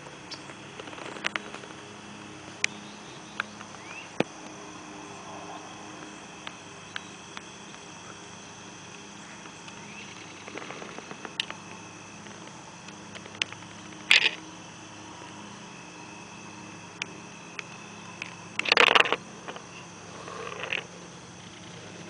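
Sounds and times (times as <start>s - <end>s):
camera hum: 0.2s - 4.6s, 5.2s - 22.0s.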